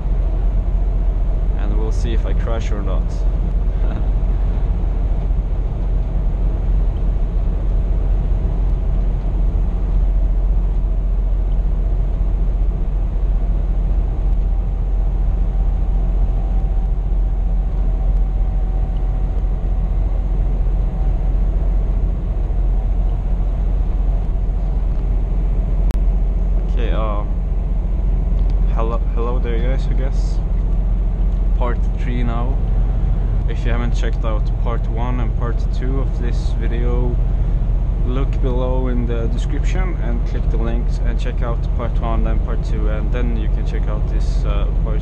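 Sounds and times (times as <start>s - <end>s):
road noise: 0.0s - 45.0s
truck engine rumble: 0.0s - 45.0s.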